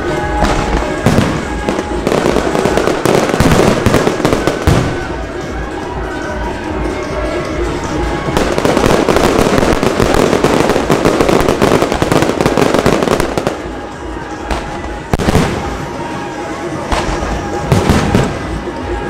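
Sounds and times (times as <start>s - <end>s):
fireworks crackling: 0.0s - 19.0s
music: 0.0s - 19.0s.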